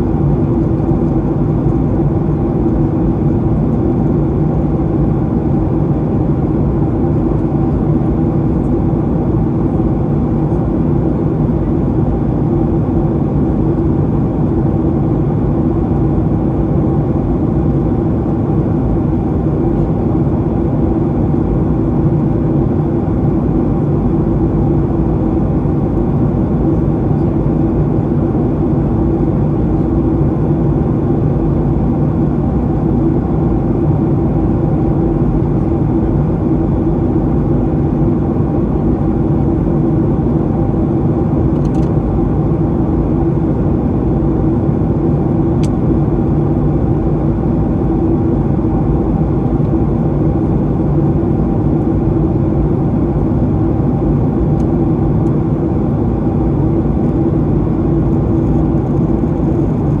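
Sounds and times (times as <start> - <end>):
airplane cabin airflow and engine hum: 0.0 - 60.0.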